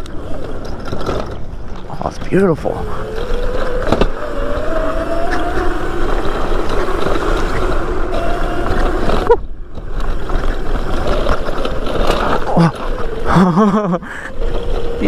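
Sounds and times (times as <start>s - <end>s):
electric motor whine: 0.0s - 15.0s
low rumble: 0.0s - 15.0s.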